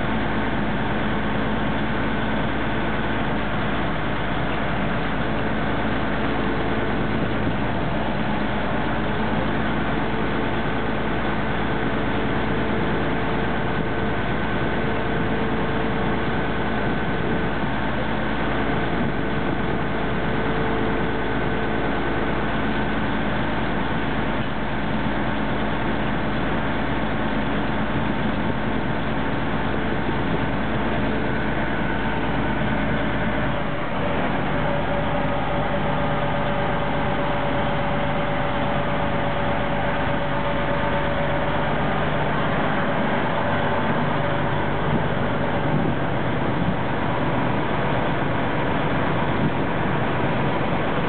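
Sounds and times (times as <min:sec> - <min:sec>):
boat engine running: 0:00.0 - 0:51.0
water rushing along hull: 0:00.0 - 0:51.0.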